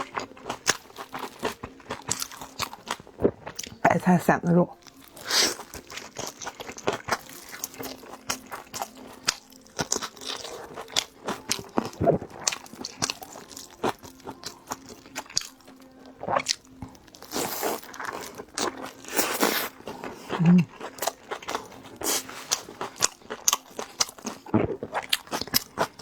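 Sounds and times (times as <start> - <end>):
chewing dumpling: 0.0 - 26.0.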